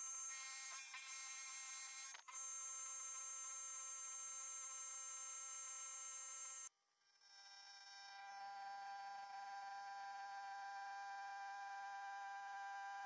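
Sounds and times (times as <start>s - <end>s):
milling machine high-pitched whine: 0.0s - 13.0s.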